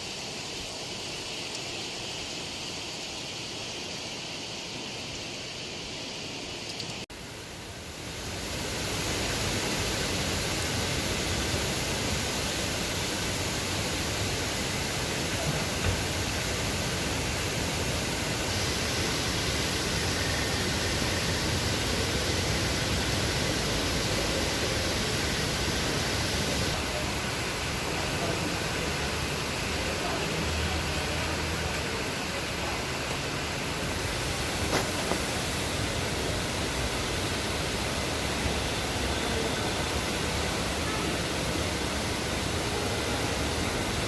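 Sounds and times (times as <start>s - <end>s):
heavy rain pouring: 0.0s - 44.0s.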